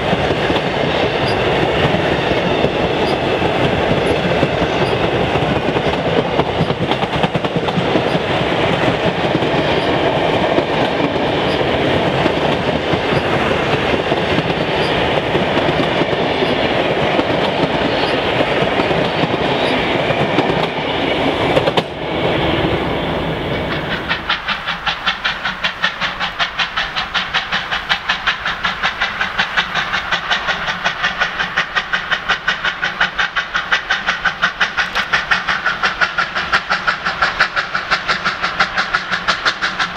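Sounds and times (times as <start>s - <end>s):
train wheels clacking over rail joints: 0.0s - 22.2s, 23.4s - 39.9s
steam locomotive exhaust beats: 0.0s - 39.9s.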